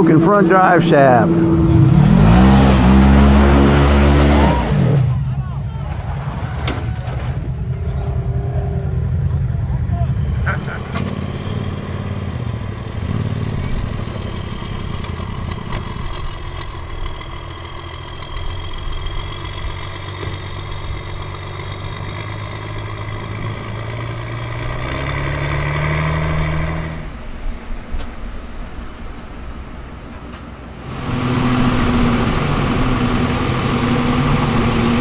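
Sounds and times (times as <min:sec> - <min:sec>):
vehicle engine revving: 0:00.0 - 0:27.4, 0:30.8 - 0:35.0.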